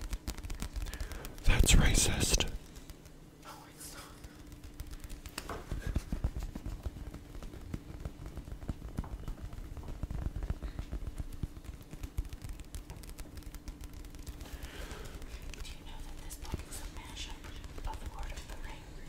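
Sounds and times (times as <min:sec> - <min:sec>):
fingers tapping on book cover: 0:00.0 - 0:03.2, 0:04.0 - 0:18.8.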